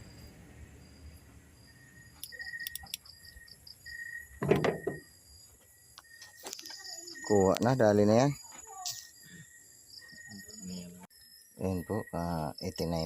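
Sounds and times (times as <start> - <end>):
insects chirping: 0.0 - 13.0
birds chirping: 1.6 - 13.0.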